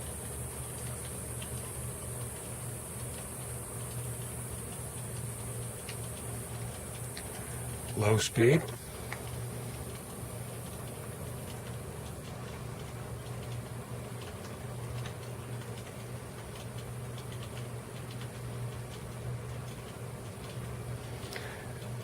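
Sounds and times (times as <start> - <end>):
ceiling fan hum: 0.0 - 22.0
rain dripping off roof: 0.0 - 22.0.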